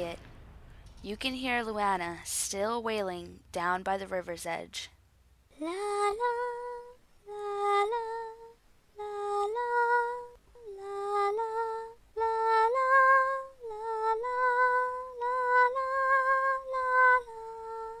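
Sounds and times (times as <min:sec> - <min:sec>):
woman singing wordless melody: 0:01.0 - 0:04.9, 0:05.5 - 0:18.0.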